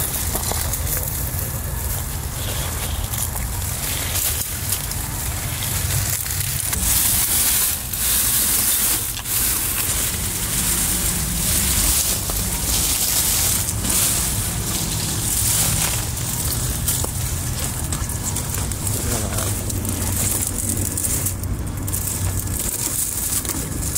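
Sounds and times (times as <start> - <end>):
dry leaves crackling and rustling: 0.0 - 23.9.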